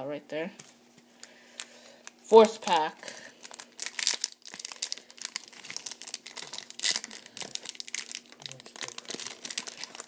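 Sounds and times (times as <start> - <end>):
foil wrapper crinkling and tearing: 1.2 - 10.0.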